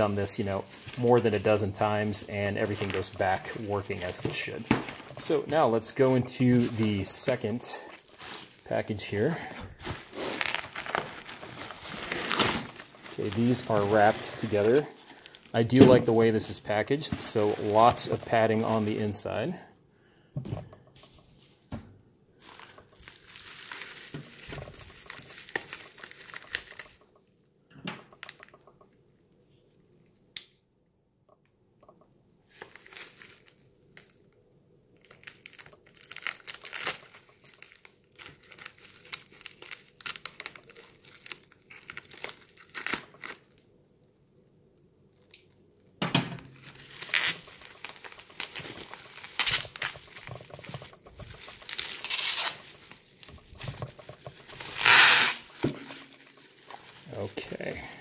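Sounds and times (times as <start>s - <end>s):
bubble wrap crinkling: 0.0s - 19.5s, 22.4s - 27.2s, 32.4s - 34.4s, 35.0s - 43.7s, 46.5s - 58.0s.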